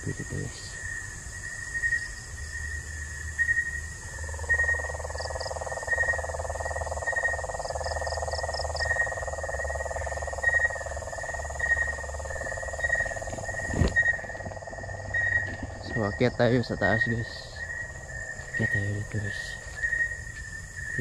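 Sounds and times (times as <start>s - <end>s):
frogs trilling: 0.0s - 21.0s
high insect chirp: 0.0s - 21.0s.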